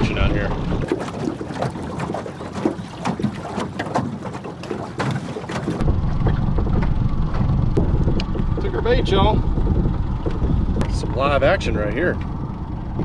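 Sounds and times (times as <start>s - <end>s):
waves slapping against boat hull: 0.0s - 13.0s.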